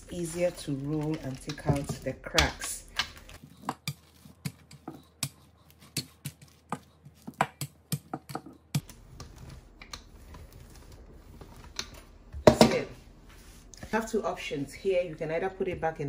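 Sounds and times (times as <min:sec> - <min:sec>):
rolling pin rolling over dough: 0:00.0 - 0:15.9.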